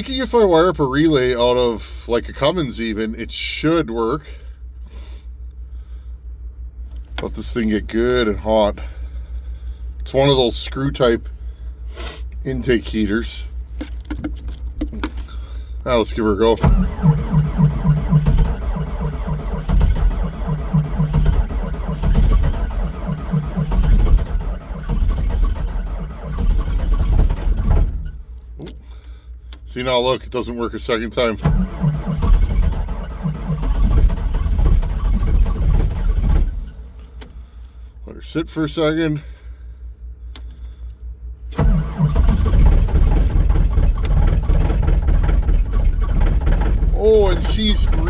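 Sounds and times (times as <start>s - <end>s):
diesel engine cranking without firing: 0.0s - 48.0s
low pulsing hum: 0.0s - 48.0s.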